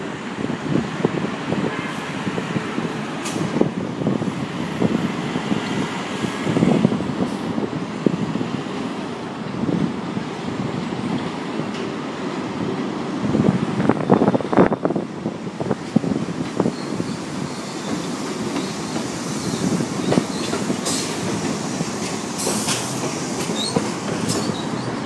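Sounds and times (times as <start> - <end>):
city traffic: 0.0 - 25.0
subway train on elevated track: 0.0 - 25.0.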